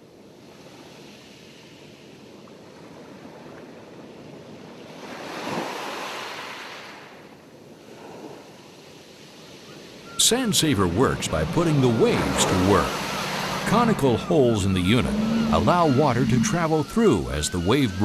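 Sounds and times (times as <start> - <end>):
ocean waves washing: 2.7 - 7.2, 7.8 - 18.0.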